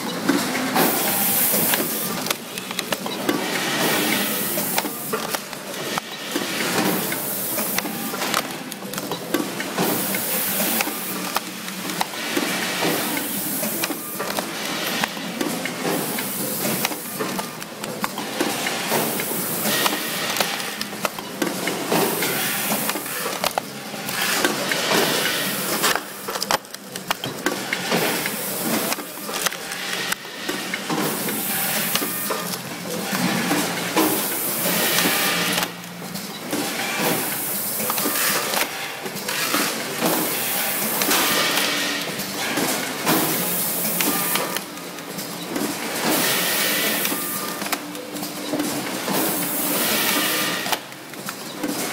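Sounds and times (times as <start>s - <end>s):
packaging machines clattering: 0.0s - 51.9s.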